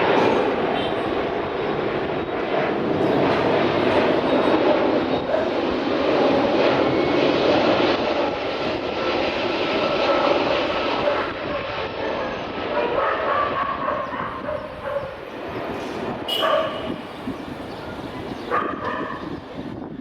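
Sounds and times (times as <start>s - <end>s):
faint jet engine whine: 0.0s - 20.0s
jet engines roaring: 0.0s - 20.0s.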